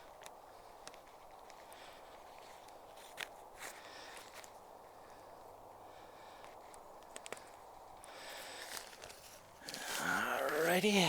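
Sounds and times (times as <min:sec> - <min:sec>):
crunching footsteps on forest ground: 0:00.0 - 0:05.4, 0:06.1 - 0:11.0.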